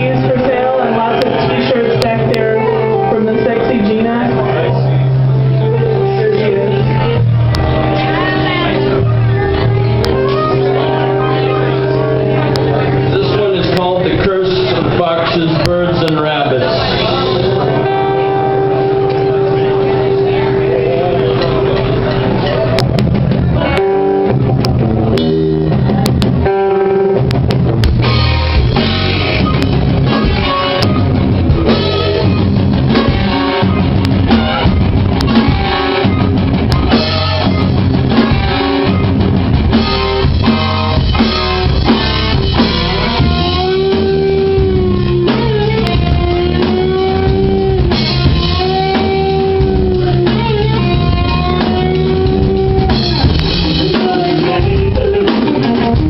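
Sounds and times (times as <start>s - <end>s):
bending lead guitar notes: 0.0s - 56.0s
rock band playing live: 0.0s - 56.0s.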